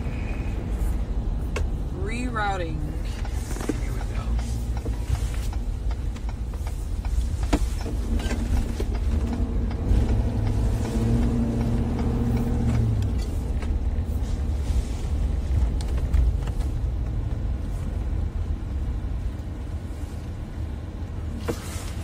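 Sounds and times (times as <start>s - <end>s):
engine hum: 0.0s - 22.0s
truck road rumble: 0.0s - 22.0s.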